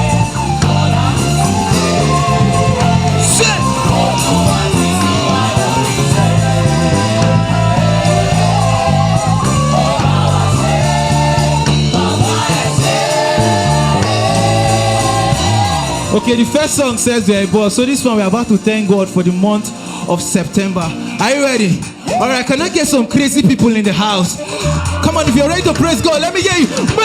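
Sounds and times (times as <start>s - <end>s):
rap backing beat: 0.0s - 27.0s.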